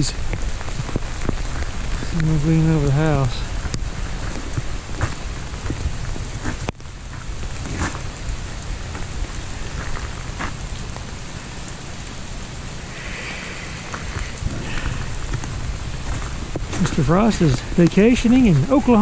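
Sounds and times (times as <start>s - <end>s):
low rumble: 0.0s - 18.8s
freezing rain falling: 0.0s - 19.0s.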